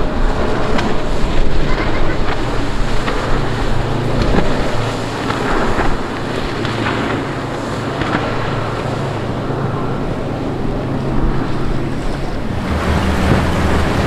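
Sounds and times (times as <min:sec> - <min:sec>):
outboard motors droning: 0:00.0 - 0:14.0
rushing wake and spray: 0:00.0 - 0:14.0
wind buffeting microphone: 0:00.0 - 0:14.0.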